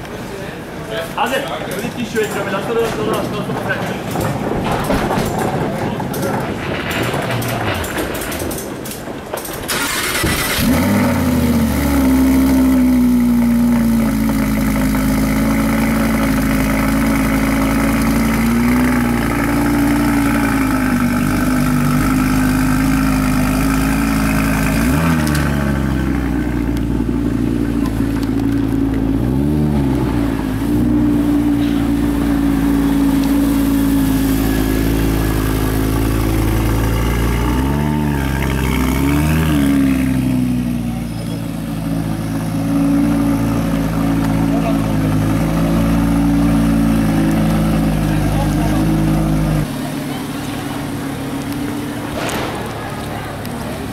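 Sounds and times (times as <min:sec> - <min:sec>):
car engine starting and idling: 0:00.0 - 0:53.9.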